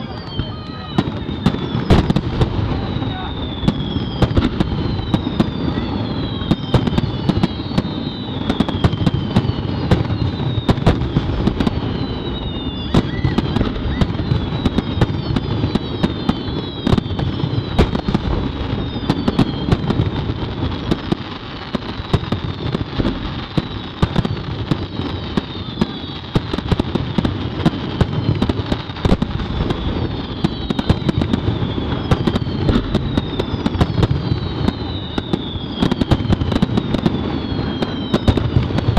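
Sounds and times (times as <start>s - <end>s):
falling fireworks whistles: 0.0s - 38.9s
fireworks bangs: 0.0s - 38.9s.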